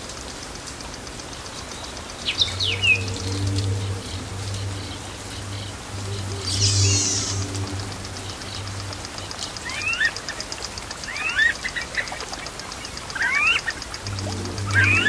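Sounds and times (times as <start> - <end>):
high ticks: 0.0 - 15.0
low hum: 0.9 - 11.0, 12.0 - 15.0
wetland bird two-part call: 1.6 - 15.0.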